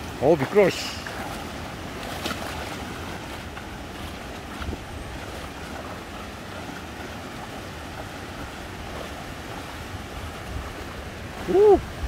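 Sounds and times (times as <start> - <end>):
legs splashing through water: 0.0 - 12.0
stream water rushing: 0.0 - 12.0.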